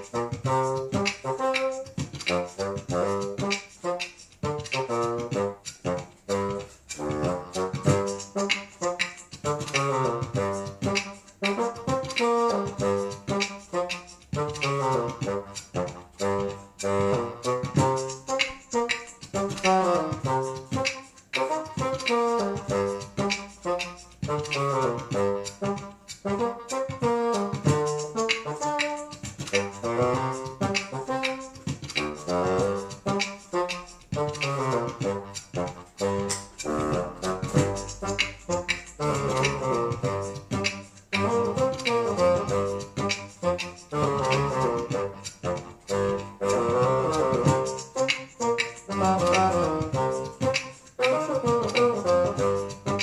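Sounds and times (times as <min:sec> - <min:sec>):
layered bassoon funk groove: 0:00.0 - 0:53.0.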